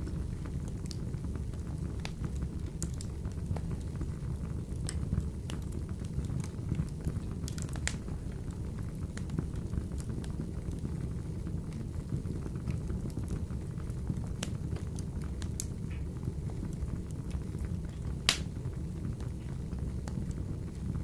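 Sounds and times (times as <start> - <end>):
logs crackling and popping: 0.0 - 10.8, 11.7 - 21.0
wood fire rumbling in a stove: 0.0 - 21.0.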